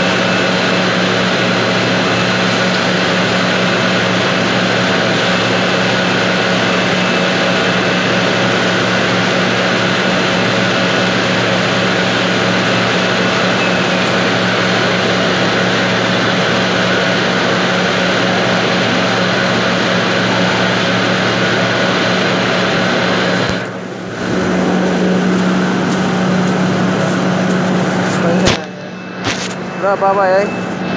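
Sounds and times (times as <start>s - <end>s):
factory machinery drone: 0.0s - 30.9s.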